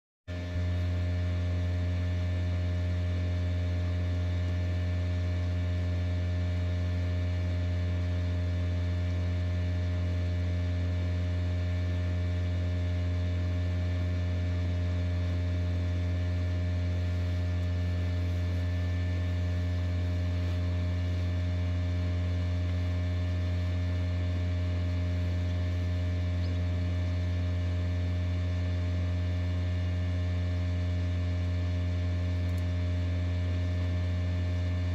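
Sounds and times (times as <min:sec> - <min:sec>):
fan motor humming: 0:00.4 - 0:34.9.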